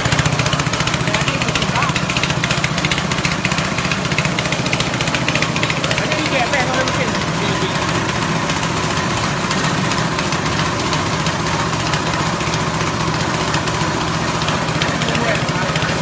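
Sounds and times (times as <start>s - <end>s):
grinding machine engine drone: 0.0s - 16.0s.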